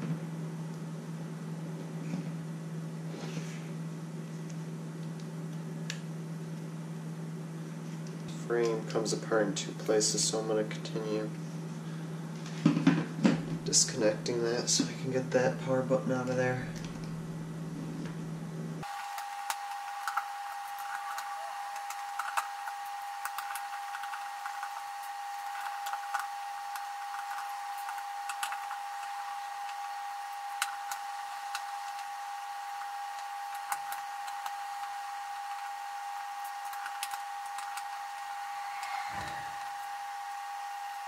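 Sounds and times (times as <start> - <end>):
steady high whine: 0.0 - 41.0.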